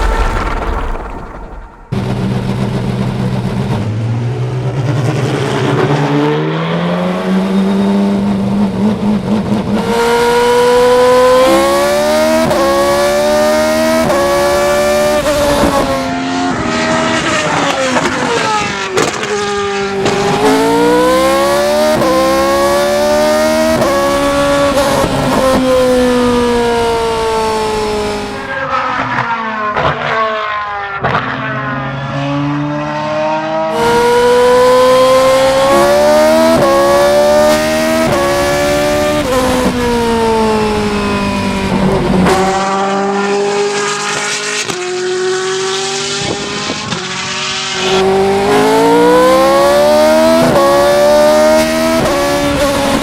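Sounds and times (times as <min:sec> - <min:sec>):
racing car engine accelerating: 0:00.0 - 0:18.1, 0:19.2 - 0:53.0.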